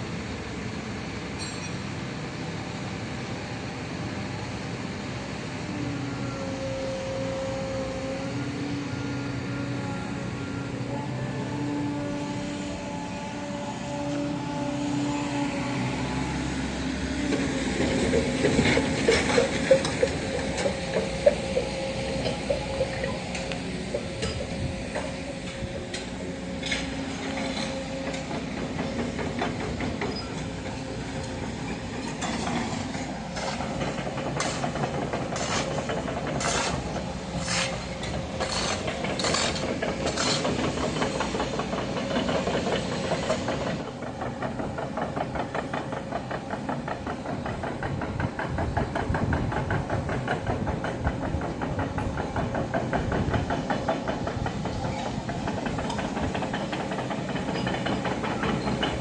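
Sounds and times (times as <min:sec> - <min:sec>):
excavator running: 0:00.0 - 0:59.0.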